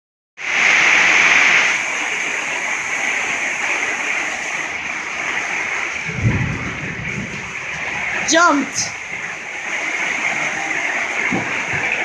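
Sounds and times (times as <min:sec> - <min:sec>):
heavy rain pouring down: 0:00.4 - 0:12.0.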